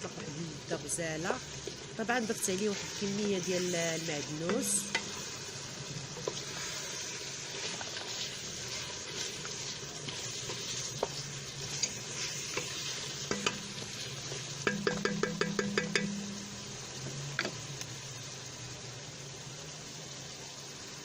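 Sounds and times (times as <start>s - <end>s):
beef and onion sizzling in oil: 0.0s - 21.0s.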